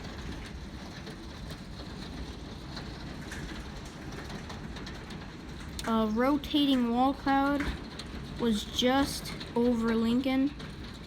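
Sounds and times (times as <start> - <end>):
hail and rain pattering: 0.0 - 11.0.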